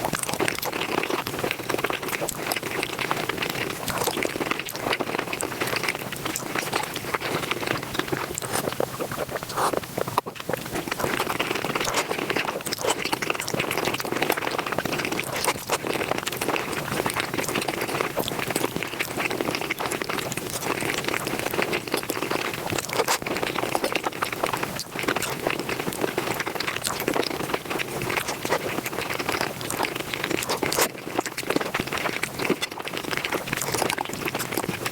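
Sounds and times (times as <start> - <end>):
rapid chewing and mouth noises: 0.0 - 34.9.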